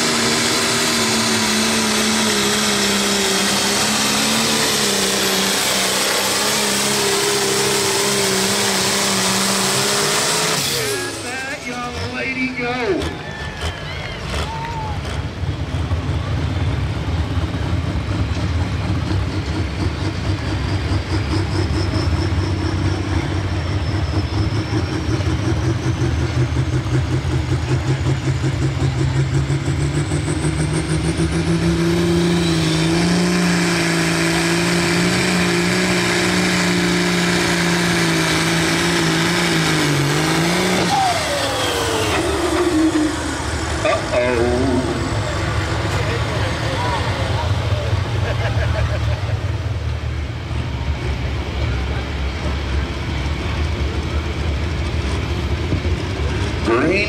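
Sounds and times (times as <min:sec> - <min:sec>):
diesel engine revving: 0:00.0 - 0:57.0
high turbo whine: 0:00.0 - 0:57.0.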